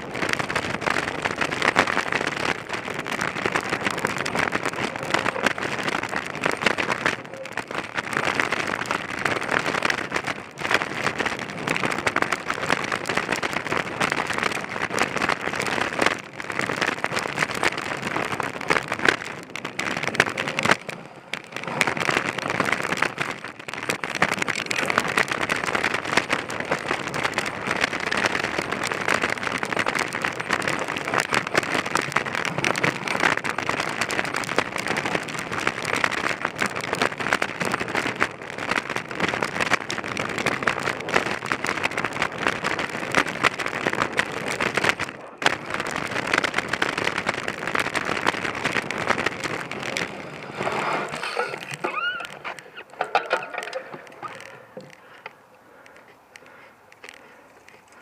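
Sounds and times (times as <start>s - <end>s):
bike tyres crunching over dirt: 0.0s - 58.0s.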